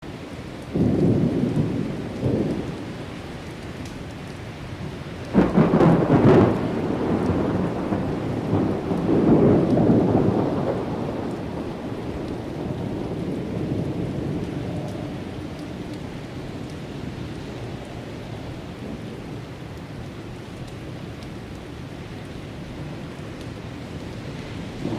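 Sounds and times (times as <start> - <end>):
thunder clap and rumble: 0.5 - 24.9.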